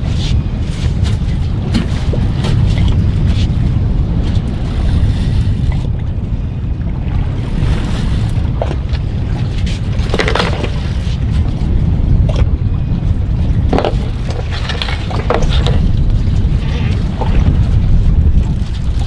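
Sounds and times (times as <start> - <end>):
water noise: 0.0 - 19.0
wind buffeting microphone: 0.0 - 19.0.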